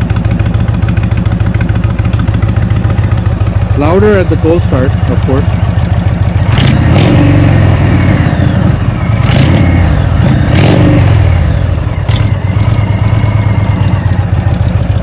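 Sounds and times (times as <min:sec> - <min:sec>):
motorcycle engine idling loudly: 0:00.0 - 0:15.0.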